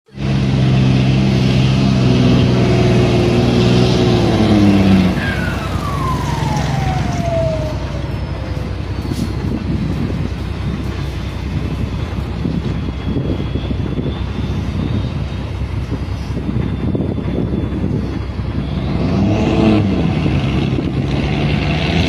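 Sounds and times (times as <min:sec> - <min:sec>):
falling whine: 0:00.1 - 0:22.0
heavy diesel engine running: 0:00.1 - 0:22.0.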